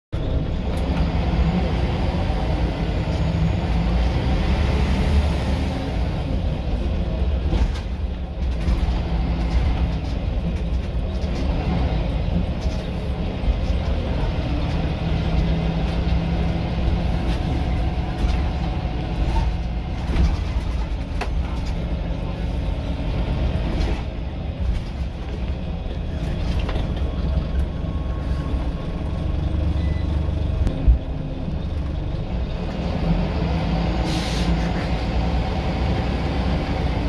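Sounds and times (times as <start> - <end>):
bus diesel engine rumbling: 0.1 - 37.0.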